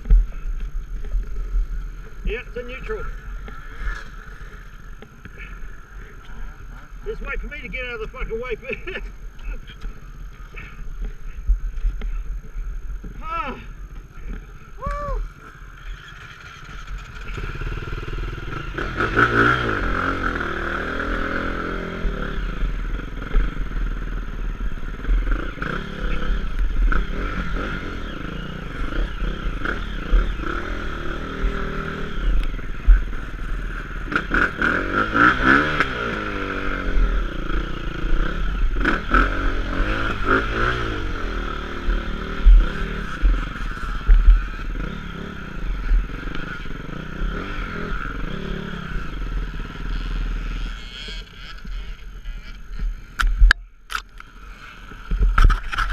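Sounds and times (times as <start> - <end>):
dirt bike engine revving: 0.0 - 53.5.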